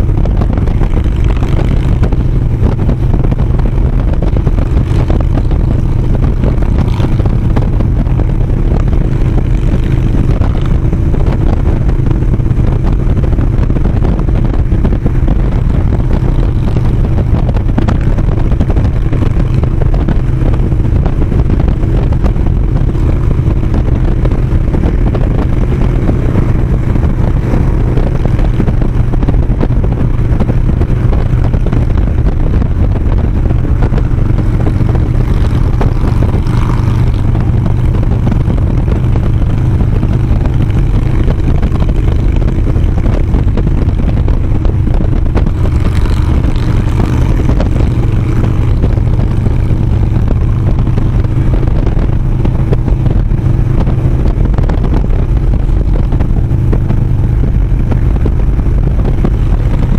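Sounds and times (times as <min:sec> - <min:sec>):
motorcycle engine drone: 0:00.0 - 0:59.9
wind and road rush: 0:00.0 - 0:59.9.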